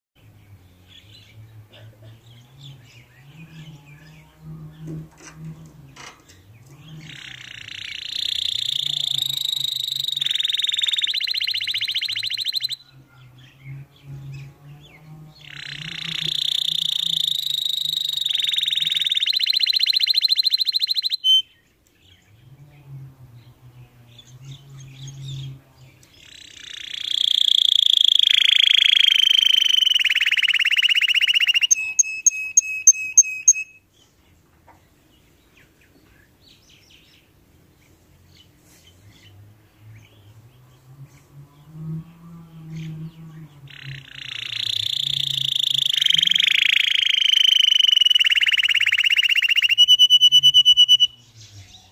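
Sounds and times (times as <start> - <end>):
canary singing rolling trills: 0.2 - 34.1, 35.1 - 51.9.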